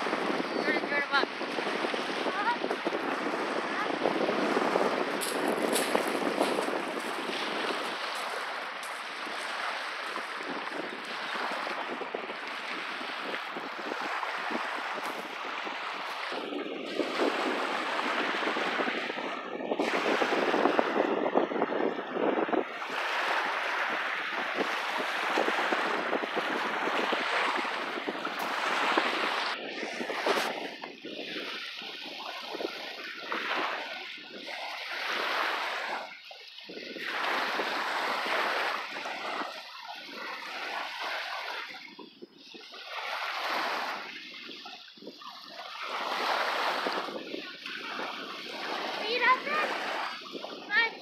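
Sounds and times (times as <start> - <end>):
small waves washing onto shore: 0.0 - 51.0.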